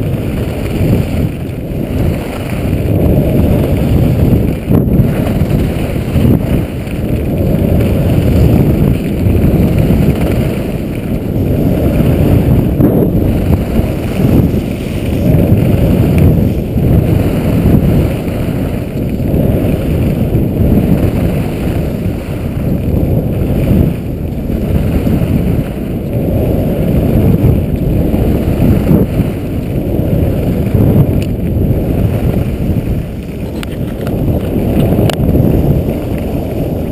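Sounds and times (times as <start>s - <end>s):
wind rumbling on microphone: 0.0s - 36.9s.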